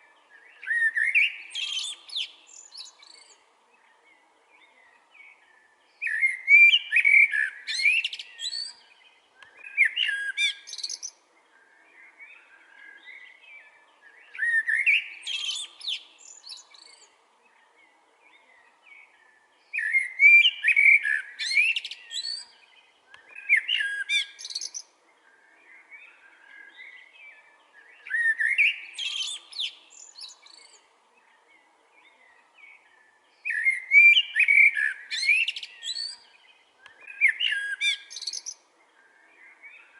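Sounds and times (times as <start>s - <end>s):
blackbird singing: 0.0s - 39.9s.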